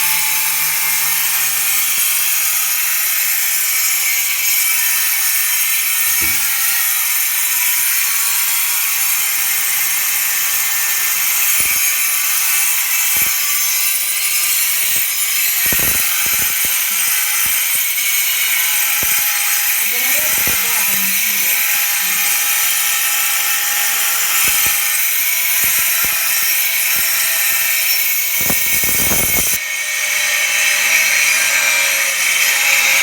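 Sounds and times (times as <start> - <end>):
power tool cutting tile: 0.0 - 33.0.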